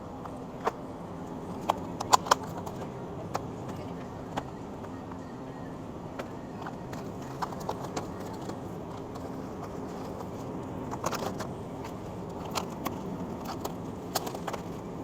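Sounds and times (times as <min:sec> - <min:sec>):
grocery store background noise: 0:00.0 - 0:15.0.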